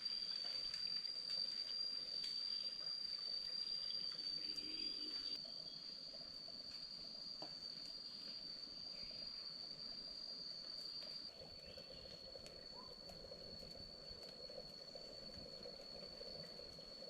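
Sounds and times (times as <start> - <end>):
insect high-pitched call: 0.0 - 17.0.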